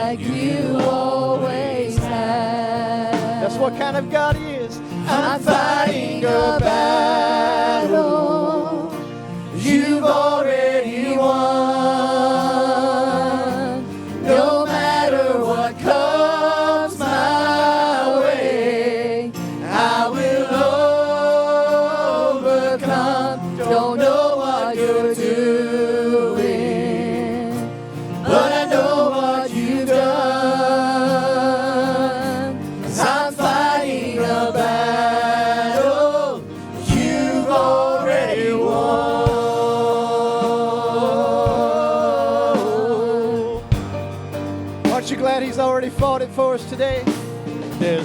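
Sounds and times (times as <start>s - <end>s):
group singing gospel worship song: 0.0s - 46.0s
instrumental backing: 0.0s - 48.0s.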